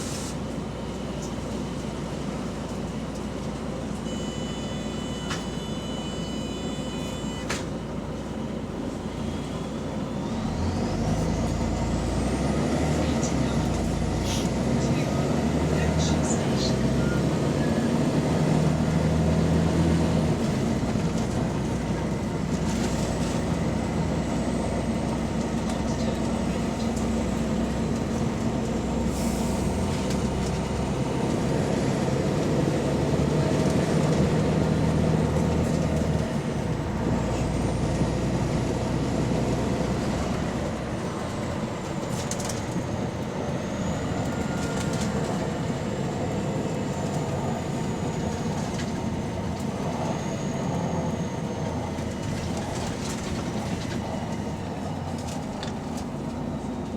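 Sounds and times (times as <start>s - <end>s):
bus engine: 0.0s - 56.9s.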